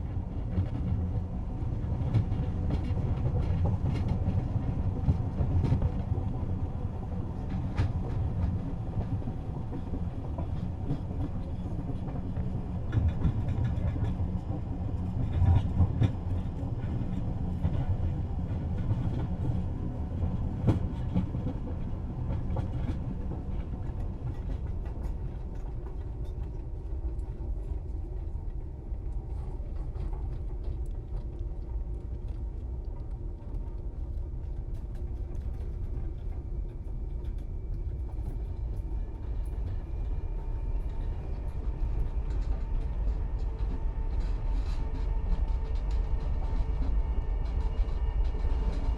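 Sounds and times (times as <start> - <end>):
train carriage rumble: 0.0 - 48.9.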